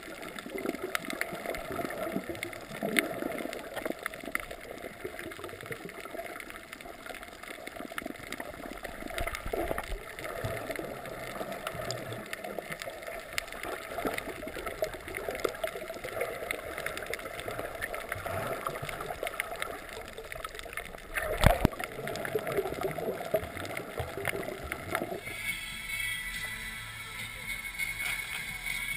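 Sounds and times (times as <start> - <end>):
small underwater clicks and crackles: 0.0 - 28.9
underwater water wash: 0.0 - 28.9.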